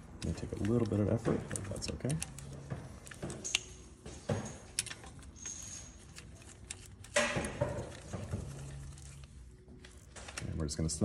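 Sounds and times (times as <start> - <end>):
metal parts clicking and scraping: 0.2 - 10.4.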